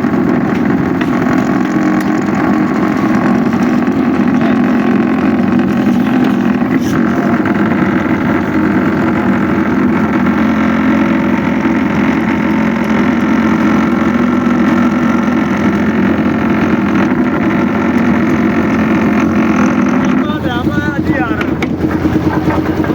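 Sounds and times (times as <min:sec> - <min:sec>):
large engine running: 0:00.0 - 0:22.9.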